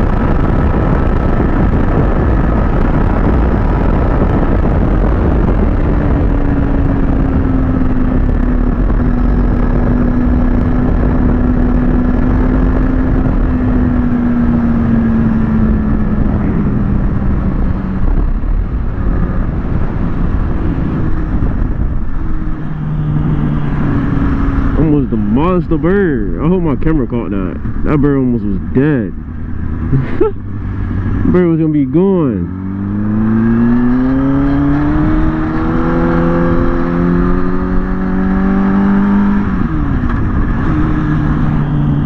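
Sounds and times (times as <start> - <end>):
motorcycle engine running: 0.0 - 42.0
wind rumble on microphone: 0.0 - 42.0.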